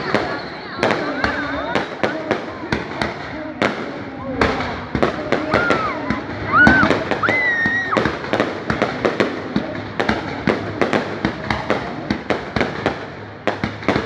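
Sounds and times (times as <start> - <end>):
fireworks bangs and crackling: 0.0 - 14.0
whistling fireworks: 0.0 - 14.0.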